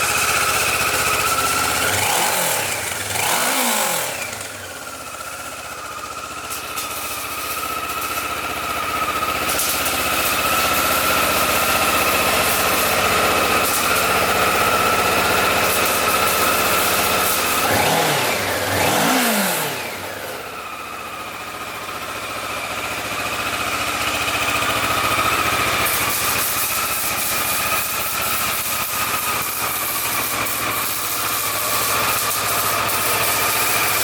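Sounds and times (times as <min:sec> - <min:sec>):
motorcycle engine idling and revving: 0:00.0 - 0:34.0.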